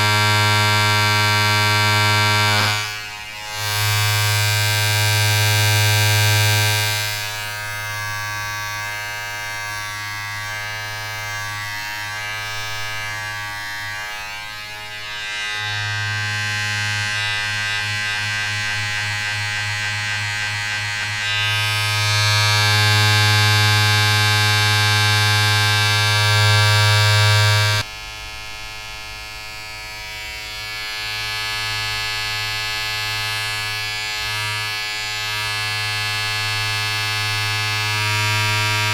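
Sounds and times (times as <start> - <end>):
small electric motor buzzing: 0.0 - 38.9.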